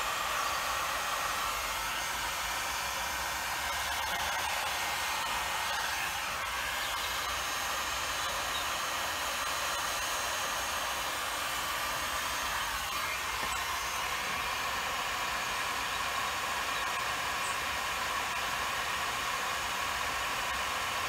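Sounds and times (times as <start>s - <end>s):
heat gun blowing: 0.0s - 21.0s.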